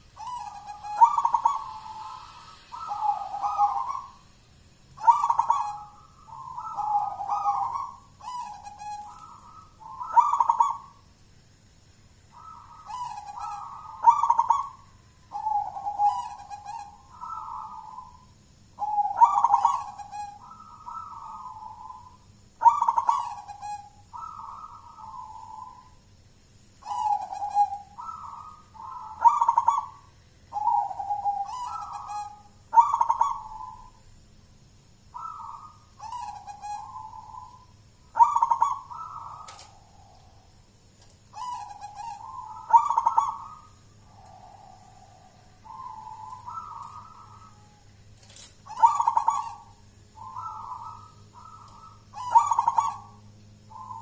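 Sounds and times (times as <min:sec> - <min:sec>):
dove cooing: 0:00.0 - 0:04.2, 0:05.0 - 0:11.1, 0:12.3 - 0:26.0, 0:26.8 - 0:34.1, 0:35.1 - 0:54.0.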